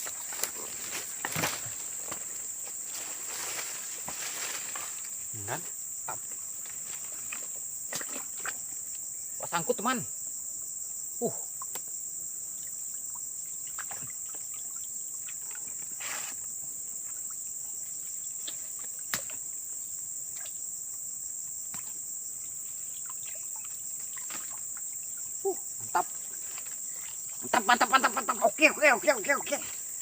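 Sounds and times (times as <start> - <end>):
crickets and insects chirping: 0.0 - 30.0.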